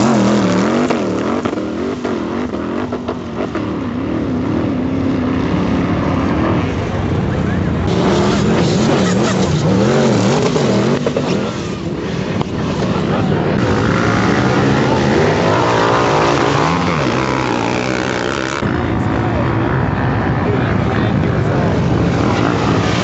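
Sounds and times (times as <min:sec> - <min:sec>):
off-road engines revving: 0:00.0 - 0:23.0.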